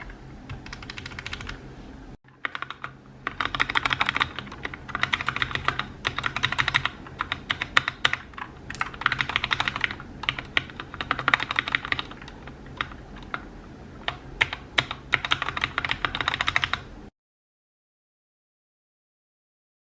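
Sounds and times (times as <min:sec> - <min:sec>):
fast typing on mechanical keyboard: 0:00.0 - 0:01.6, 0:02.3 - 0:16.9.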